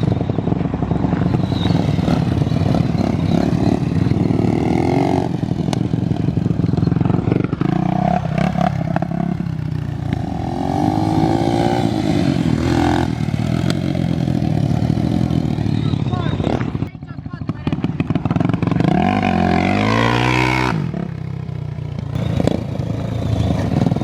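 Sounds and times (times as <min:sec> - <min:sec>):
off-road vehicle engine revving: 0:01.0 - 0:16.9, 0:17.6 - 0:24.0.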